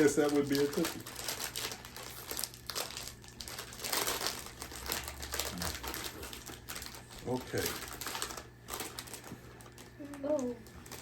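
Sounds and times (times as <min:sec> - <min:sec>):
snack wrapper crinkling: 0:00.0 - 0:11.0.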